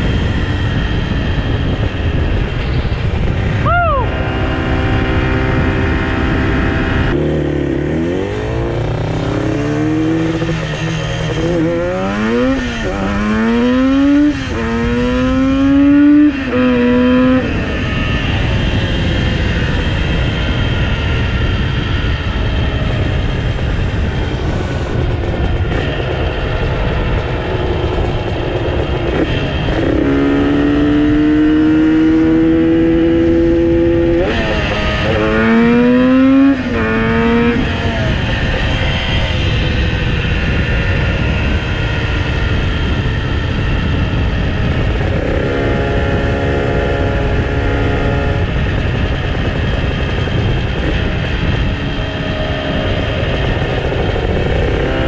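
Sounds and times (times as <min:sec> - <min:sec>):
motorcycle engine accelerating: 0:00.0 - 0:55.0
steady rushing noise: 0:00.0 - 0:55.0.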